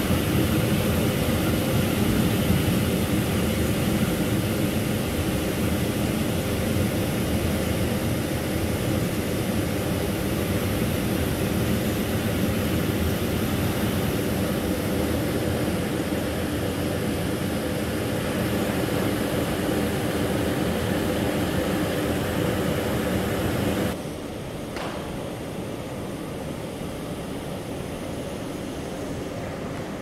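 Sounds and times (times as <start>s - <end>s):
air conditioning drone: 0.0s - 30.0s.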